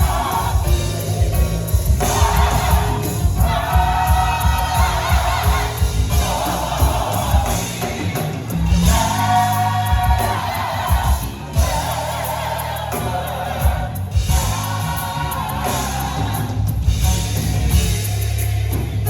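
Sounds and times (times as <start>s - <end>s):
gospel choir singing: 0.0s - 19.0s
live band with bass and drums: 0.0s - 19.0s.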